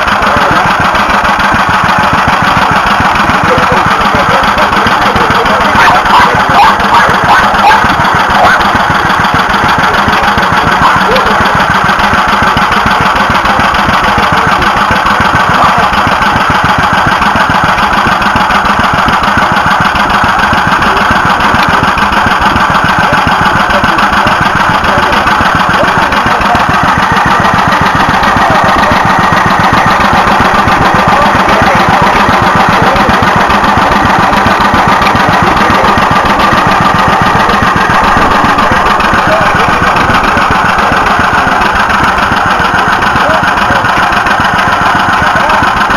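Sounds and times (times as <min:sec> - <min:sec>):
sharp engine knocks: 0:00.0 - 0:45.9
stationary engine running: 0:00.0 - 0:45.9.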